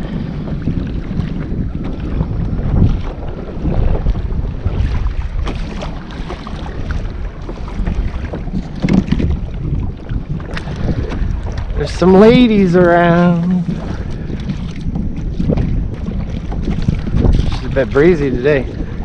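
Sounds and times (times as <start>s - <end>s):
water slapping against kayak hull: 0.0s - 19.0s
wind buffeting microphone: 0.0s - 19.0s.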